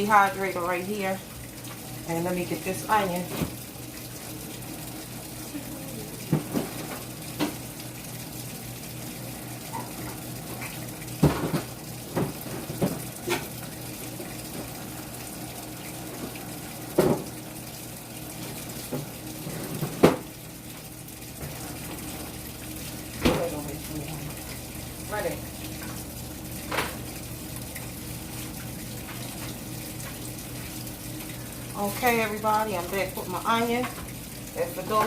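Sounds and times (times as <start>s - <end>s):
washing machine running: 0.0s - 35.0s.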